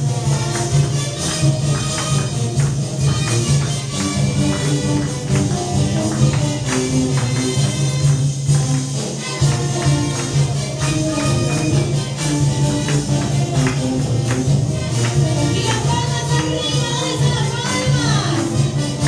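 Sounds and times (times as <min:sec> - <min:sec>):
loud dance music with percussion: 0:00.0 - 0:19.0.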